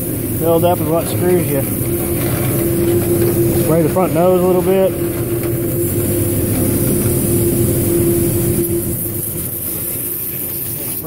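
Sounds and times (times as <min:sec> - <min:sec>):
hose spray nozzle hissing: 0:00.0 - 0:11.0
truck engine humming: 0:00.0 - 0:11.0.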